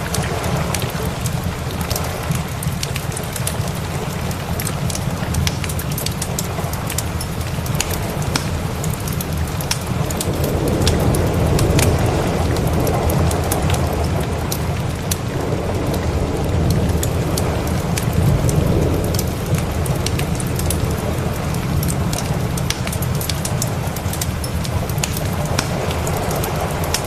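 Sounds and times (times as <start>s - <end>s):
steady rain: 0.0s - 27.0s
thunder rumbling: 0.0s - 27.0s
wood fire crackling: 0.0s - 27.0s.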